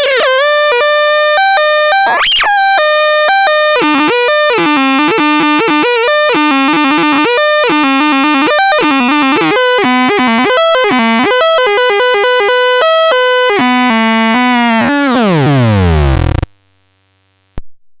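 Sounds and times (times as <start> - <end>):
buzzy synthesizer notes: 0.0 - 16.5.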